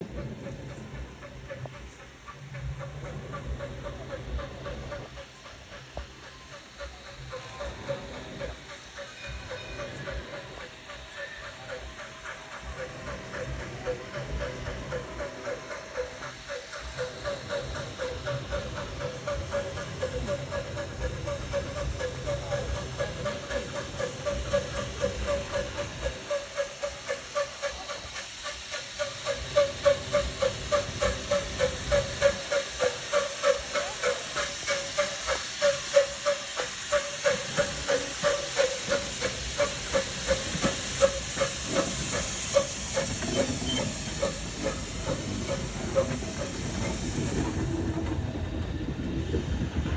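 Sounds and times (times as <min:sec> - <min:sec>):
steam hissing: 0:00.0 - 0:49.9
steam locomotive chuffing: 0:00.0 - 0:49.9.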